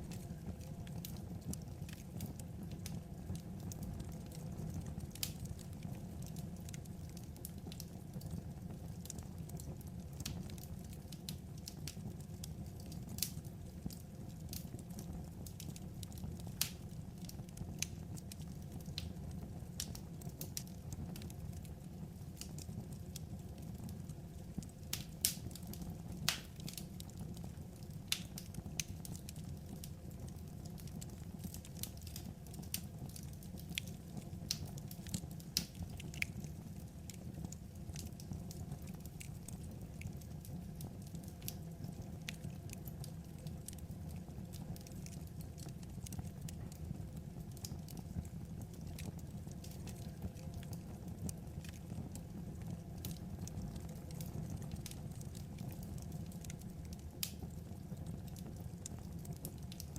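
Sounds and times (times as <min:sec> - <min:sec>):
fire crackles and sharp pops: 0:00.0 - 0:59.9
wood fire rumbling: 0:00.0 - 0:59.9.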